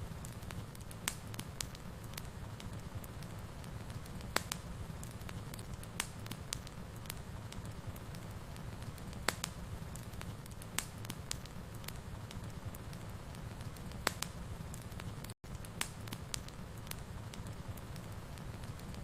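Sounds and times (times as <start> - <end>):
fire rumbling in a fireplace: 0.0 - 19.0
wood crackling and popping: 0.0 - 19.0.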